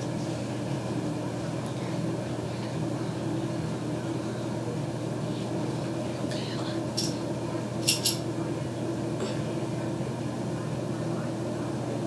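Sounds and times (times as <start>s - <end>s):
low background hum with hiss: 0.0s - 12.0s.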